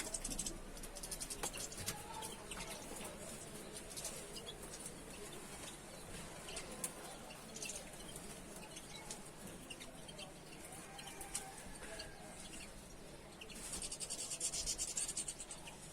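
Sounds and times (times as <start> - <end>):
cage birds chirping: 0.0 - 15.9.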